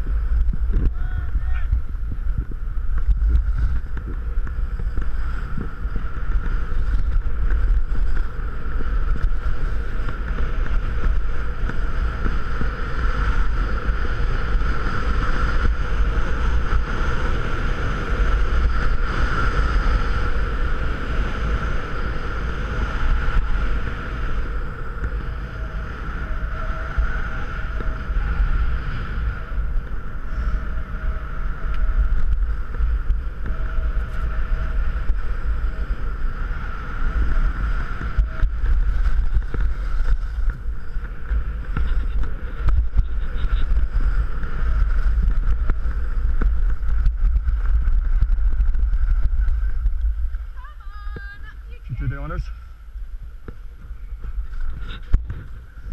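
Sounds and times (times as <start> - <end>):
skis sliding over snow: 0.0 - 52.6
wind buffeting microphone: 0.0 - 55.9.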